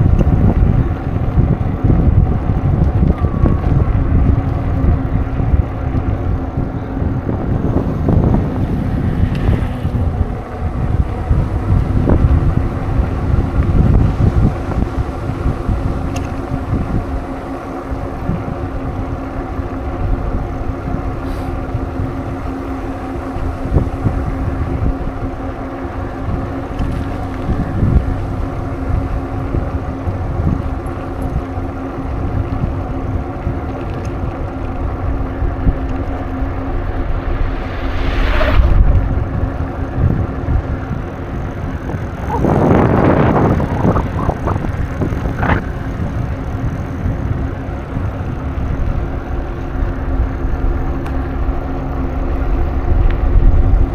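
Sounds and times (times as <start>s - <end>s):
rough riding noise: 0.0s - 53.9s
steady low drone: 0.0s - 53.9s
wind on microphone: 0.0s - 53.9s.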